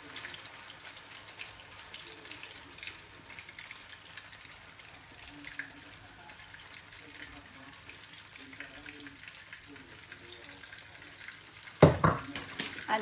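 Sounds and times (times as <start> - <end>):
bread sizzling in oil: 0.0 - 13.0
oil popping and crackling: 0.0 - 13.0.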